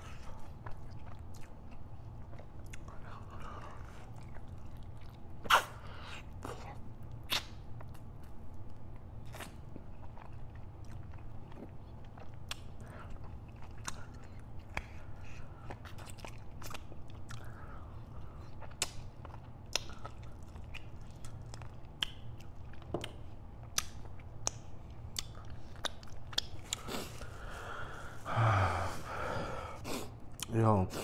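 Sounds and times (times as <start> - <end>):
person chewing with lip smacks: 0.0 - 28.2.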